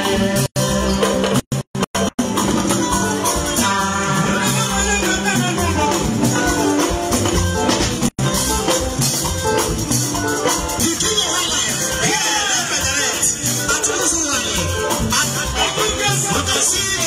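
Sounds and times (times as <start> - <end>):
bass guitar: 0.0 - 17.0
electric guitar lead melody: 2.0 - 17.0.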